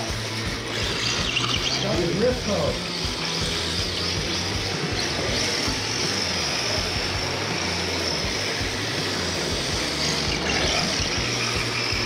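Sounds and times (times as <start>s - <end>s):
high-pitched motor whine: 0.0s - 12.0s.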